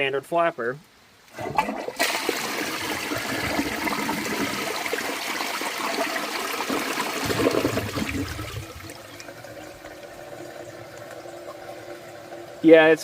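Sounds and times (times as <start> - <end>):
toilet flushing: 1.3 - 13.0
water running as tank refills: 1.3 - 13.0.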